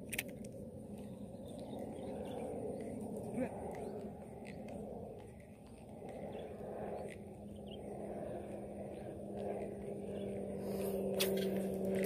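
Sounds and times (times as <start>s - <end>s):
distant engine humming: 0.0s - 12.0s.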